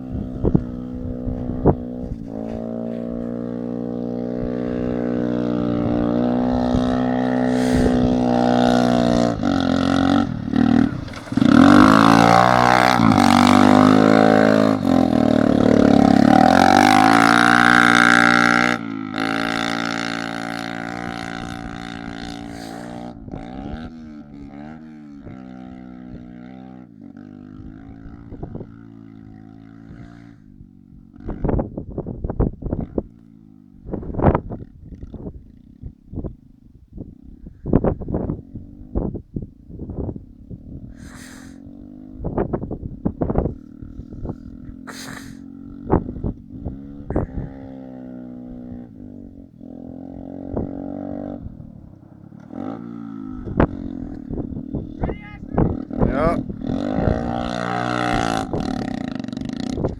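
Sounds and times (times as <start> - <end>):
small atv engine running: 0.0 - 59.9.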